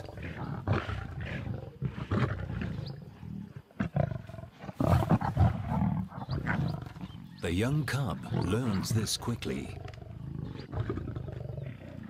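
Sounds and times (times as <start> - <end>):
lions growling and snarling: 0.0 - 12.0.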